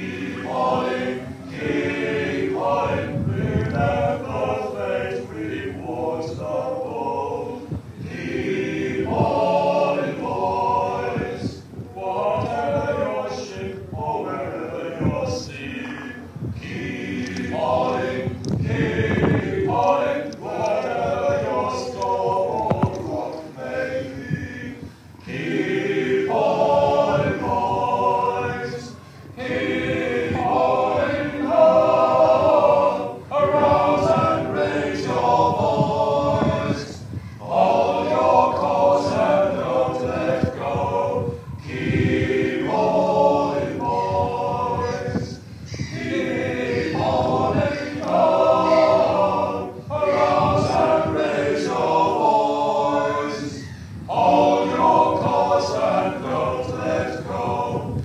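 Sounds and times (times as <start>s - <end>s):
choir singing unaccompanied: 0.0s - 58.0s.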